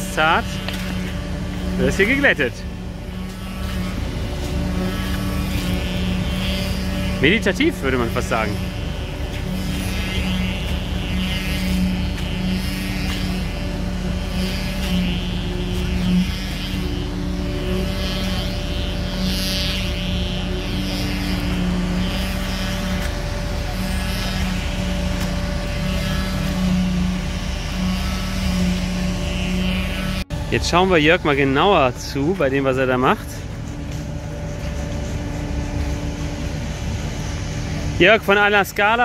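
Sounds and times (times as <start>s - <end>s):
engine-driven machinery humming: 0.0s - 39.0s.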